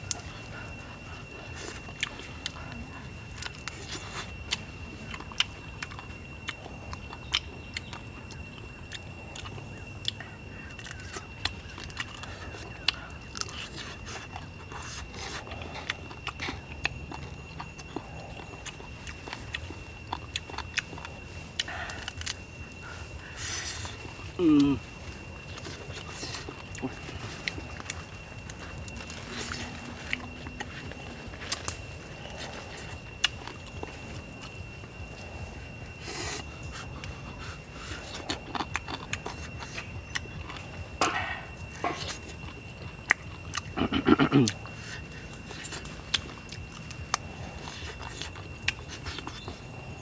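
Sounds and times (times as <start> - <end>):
person chewing and crunching: 0.0 - 50.0
steady high-pitched tone: 0.0 - 50.0.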